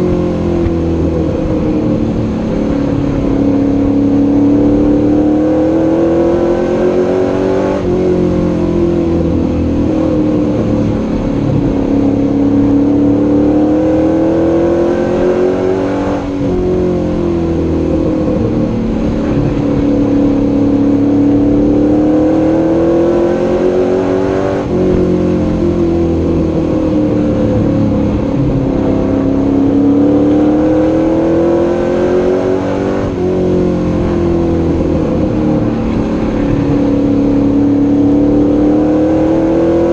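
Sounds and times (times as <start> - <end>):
truck engine at racing speed: 0.0 - 39.9.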